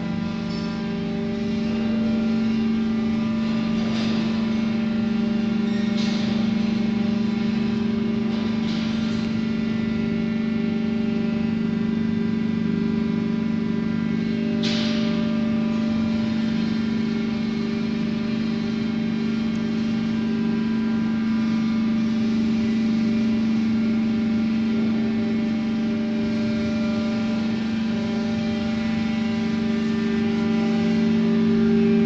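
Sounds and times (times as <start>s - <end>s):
hydraulic motor and pump humming: 0.0s - 32.0s.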